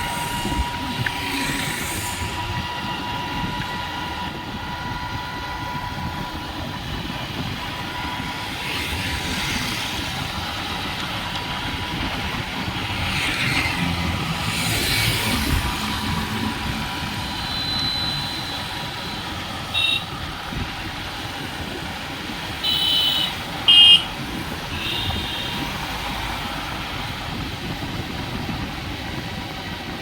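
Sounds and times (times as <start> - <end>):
vehicle low rumble: 0.0 - 30.0.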